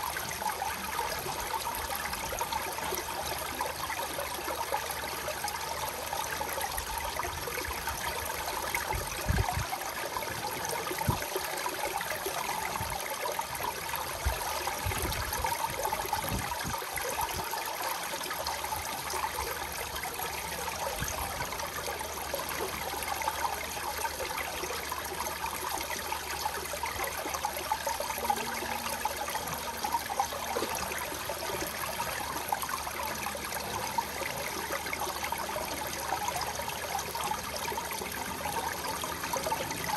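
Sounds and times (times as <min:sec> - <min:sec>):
fountain water trickling and splashing: 0:00.0 - 0:39.9.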